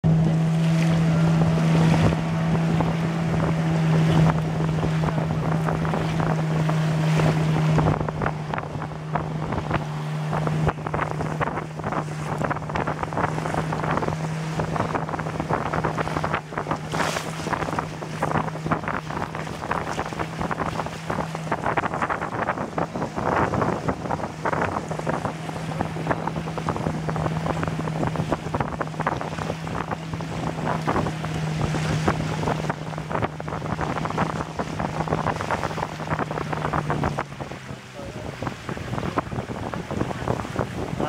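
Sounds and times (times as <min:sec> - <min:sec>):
outboard motor running: 0:00.0 - 0:41.0
water rushing along hull: 0:00.0 - 0:41.0
wind buffeting microphone: 0:00.0 - 0:41.0.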